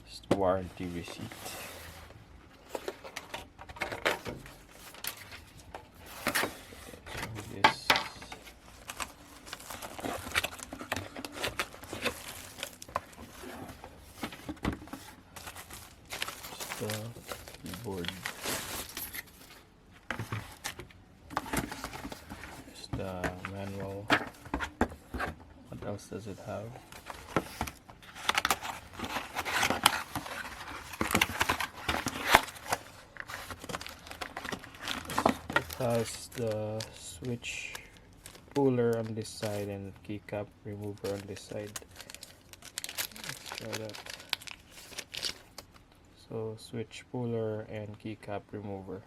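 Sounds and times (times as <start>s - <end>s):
paper and plastic rustling: 0.4s - 40.0s, 40.7s - 45.8s.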